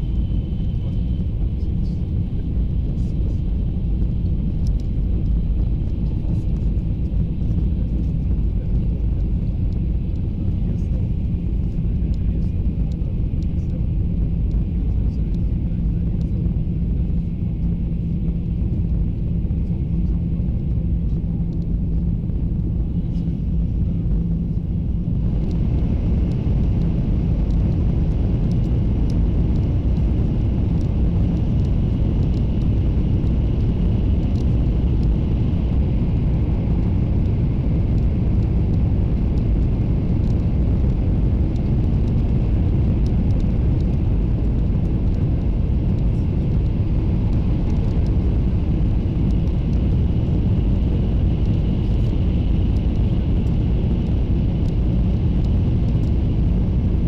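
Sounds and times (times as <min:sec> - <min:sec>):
faint hum: 0:00.0 - 0:57.0
train cabin running rumble: 0:00.0 - 0:57.0.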